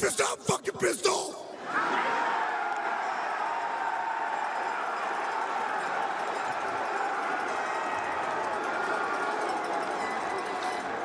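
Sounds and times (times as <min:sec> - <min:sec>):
huge crowd cheering: 0:01.6 - 0:11.0.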